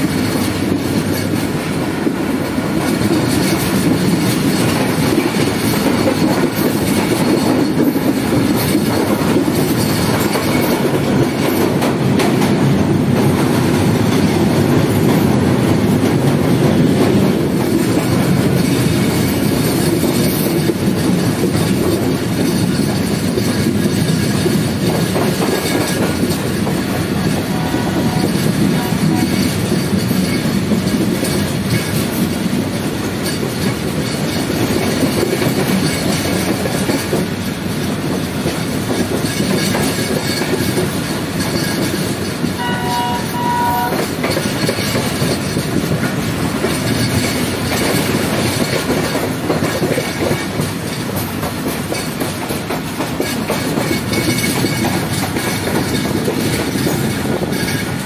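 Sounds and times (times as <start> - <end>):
wheels on rails: 0.0 - 58.0.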